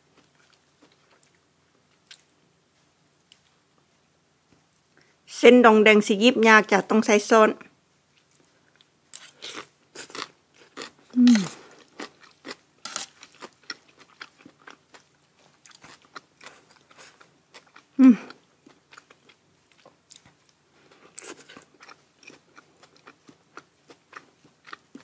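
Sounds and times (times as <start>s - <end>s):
person chewing and crunching food: 0.1s - 3.6s, 8.1s - 25.0s.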